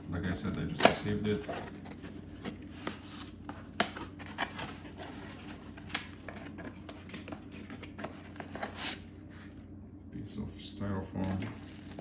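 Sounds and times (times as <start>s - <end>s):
cardboard and plastic packaging handled: 0.2s - 9.8s, 11.3s - 12.0s.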